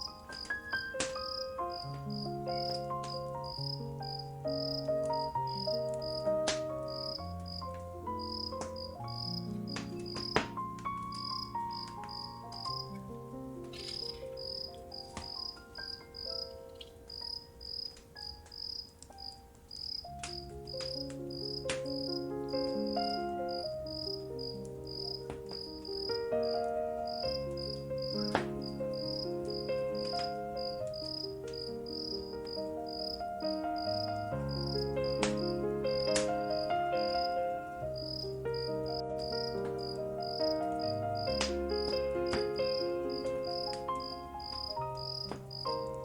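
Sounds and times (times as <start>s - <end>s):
crickets chirping: 0.0s - 46.0s
soft slow music: 0.0s - 46.0s
wood fire crackling: 0.0s - 46.0s.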